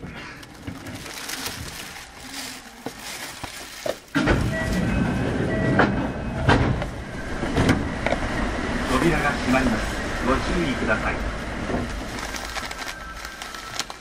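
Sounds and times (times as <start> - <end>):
train rumble from inside: 0.0 - 14.0.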